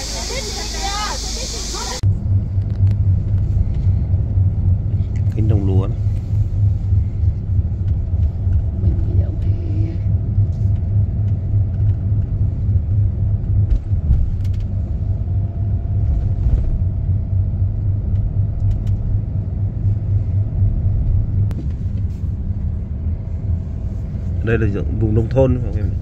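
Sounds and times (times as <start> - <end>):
car driving rumble from inside: 0.0 - 26.0.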